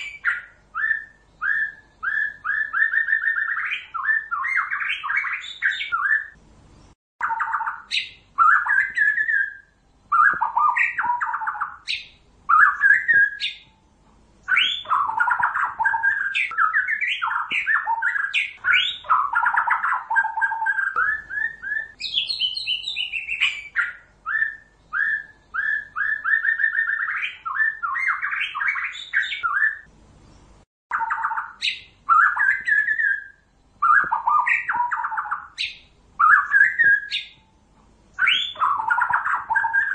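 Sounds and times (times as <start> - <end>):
bird singing varied whistles: 0.0 - 6.4, 7.2 - 13.8, 14.4 - 29.9, 30.9 - 37.5, 38.2 - 39.9.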